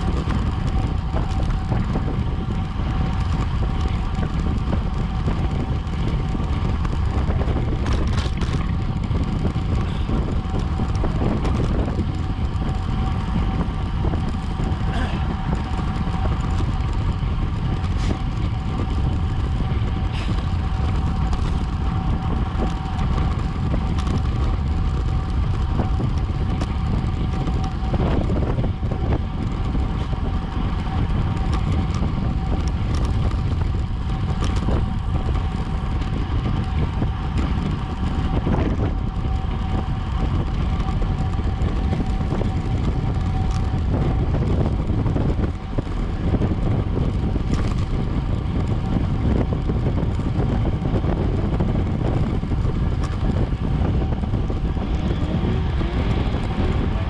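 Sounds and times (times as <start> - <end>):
road and tyre noise: 0.0 - 57.0
wind rushing over microphone: 0.0 - 57.0.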